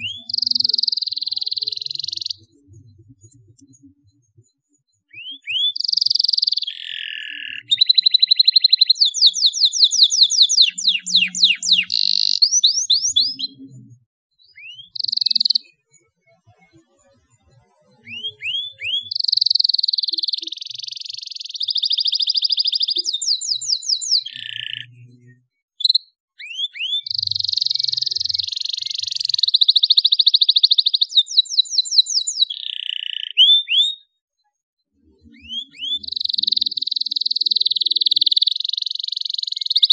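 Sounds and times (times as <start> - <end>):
canary singing trills: 0.0 - 34.2, 34.9 - 39.9.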